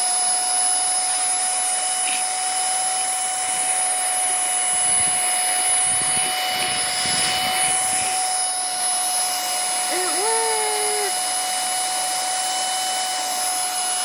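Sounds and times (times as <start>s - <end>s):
vacuum motor whine: 0.0s - 14.0s.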